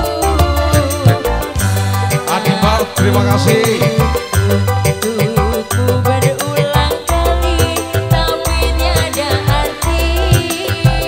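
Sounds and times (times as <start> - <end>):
fast drum beat: 0.0 - 11.0
live band music: 0.0 - 11.0.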